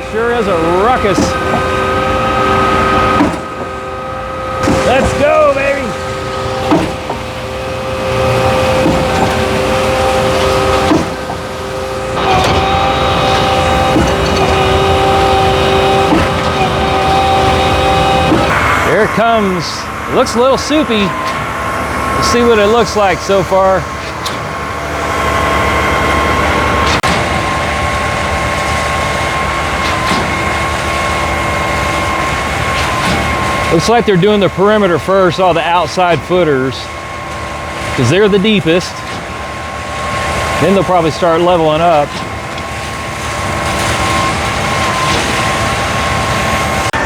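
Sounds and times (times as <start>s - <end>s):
concrete pump machinery whine: 0.0s - 47.0s.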